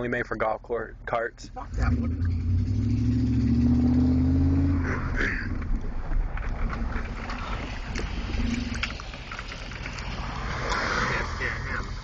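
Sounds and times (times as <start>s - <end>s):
car moving: 0.0s - 12.0s.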